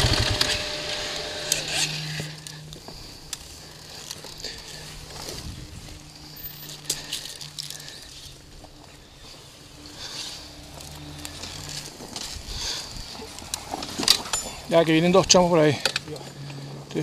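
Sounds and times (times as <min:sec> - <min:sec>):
dirt bike engines humming: 0:00.0 - 0:17.0.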